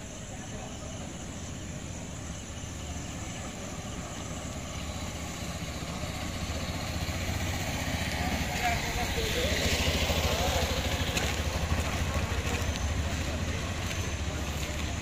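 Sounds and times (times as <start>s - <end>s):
low engine rumble: 0.0s - 15.0s
outdoor noise: 0.0s - 15.0s.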